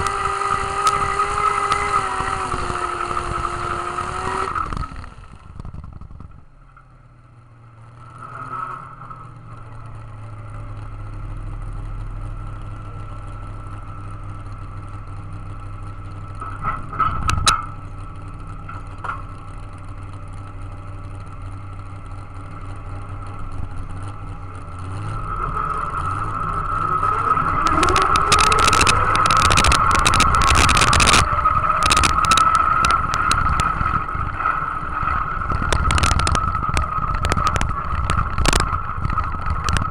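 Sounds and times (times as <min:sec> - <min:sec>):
dense sharp crackling: 0:00.0 - 0:39.9
high engine whine: 0:00.0 - 0:39.9
tractor engine idling and revving: 0:00.0 - 0:39.9.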